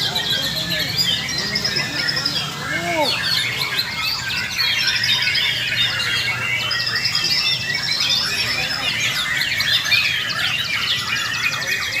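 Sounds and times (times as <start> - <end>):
chorus of songbirds whistling: 0.0 - 12.0.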